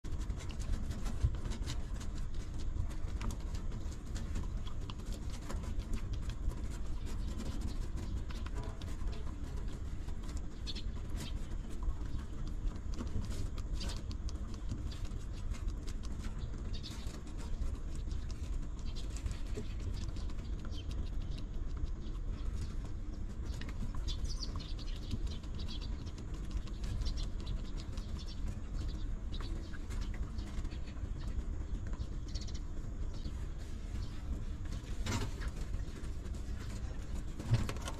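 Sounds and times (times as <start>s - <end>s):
steady low rumble: 0.0s - 37.9s.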